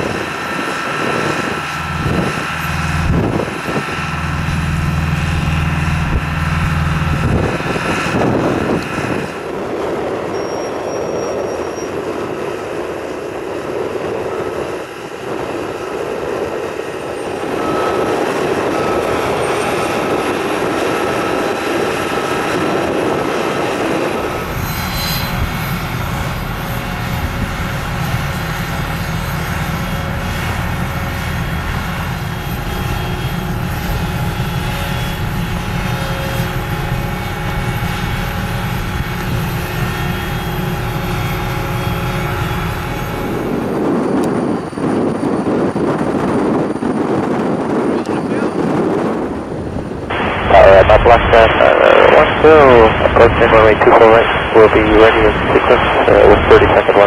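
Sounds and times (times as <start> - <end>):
truck engine drone: 0.0 - 57.0.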